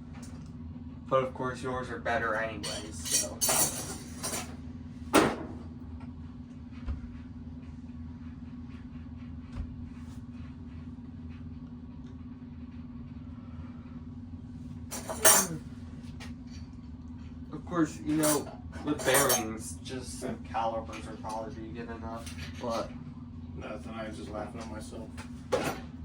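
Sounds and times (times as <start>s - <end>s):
low workshop hum: 0.0s - 26.0s.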